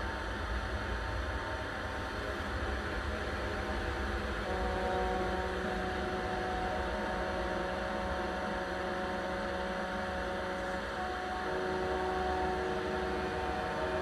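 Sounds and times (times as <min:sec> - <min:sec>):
steady droning hum: 0:00.0 - 0:14.0.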